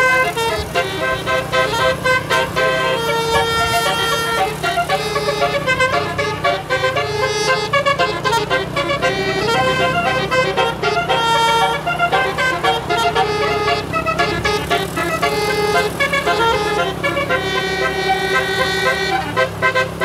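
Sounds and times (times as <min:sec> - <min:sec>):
bus engine humming low: 0:00.0 - 0:20.0
musical air horn tune: 0:00.0 - 0:20.0.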